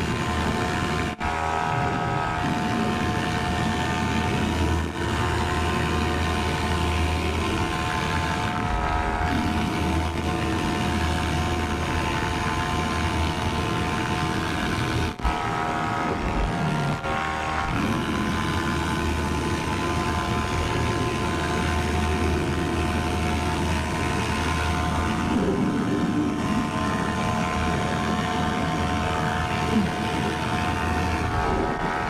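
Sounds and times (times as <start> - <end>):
paramotor engine and propeller: 0.0 - 32.0.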